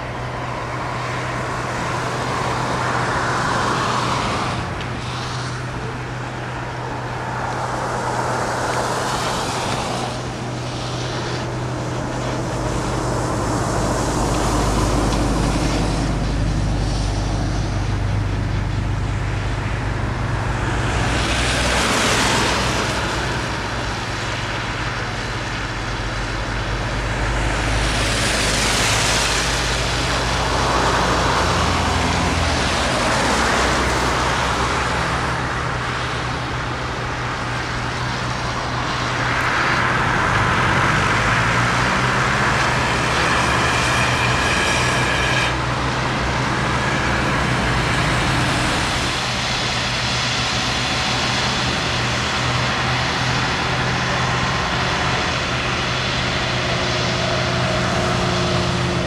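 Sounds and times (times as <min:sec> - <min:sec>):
low engine hum: 0:00.0 - 0:59.0
vehicles swishing past: 0:00.0 - 0:59.0.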